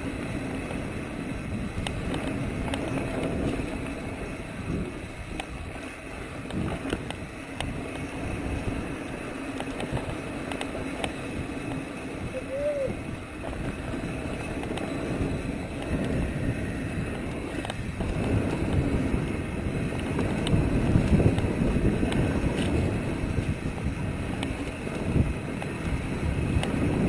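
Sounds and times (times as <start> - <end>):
bike rattling over bumps: 0.0 - 27.0
tyres rumbling over dirt: 0.0 - 27.0
wind on microphone: 0.0 - 27.0.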